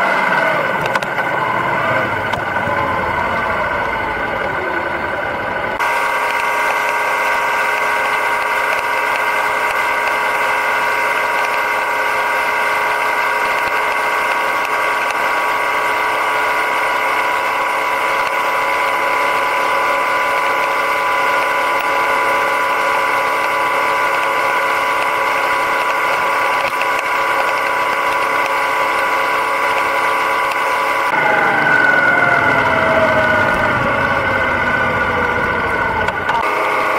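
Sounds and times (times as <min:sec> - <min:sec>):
motorcycle engine cruising drone: 0:00.0 - 0:36.9.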